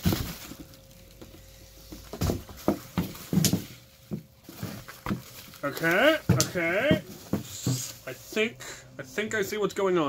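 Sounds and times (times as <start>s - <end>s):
bubble wrap crinkling: 0.0s - 8.2s.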